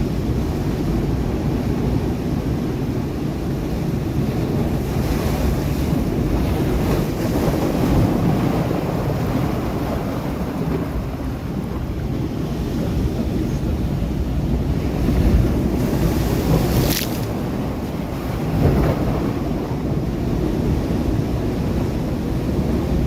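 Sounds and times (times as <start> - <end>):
waves breaking on rocks: 0.0 - 23.0
wind rumbling on microphone: 0.0 - 23.0.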